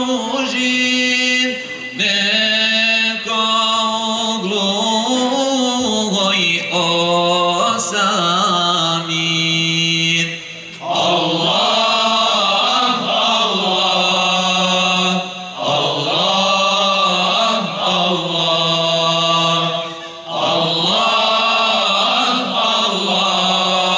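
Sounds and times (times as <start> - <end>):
male vocal group singing: 0.0 - 23.9.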